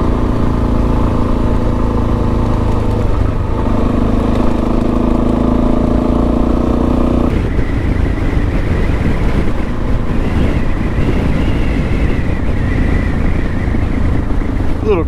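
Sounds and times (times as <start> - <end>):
motorcycle engine: 0.0 - 15.0
wind rush and road noise: 0.0 - 15.0.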